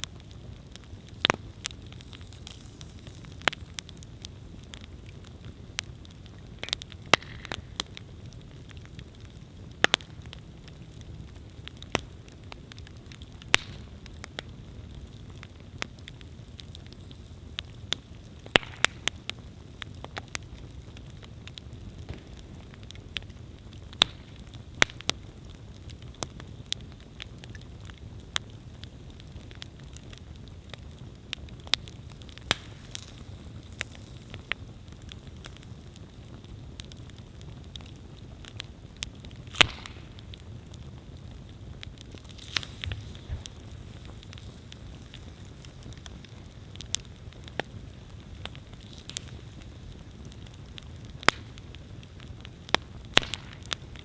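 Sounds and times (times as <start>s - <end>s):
campfire flame rumble: 0.0s - 54.0s
fire crackling and popping: 0.0s - 54.0s.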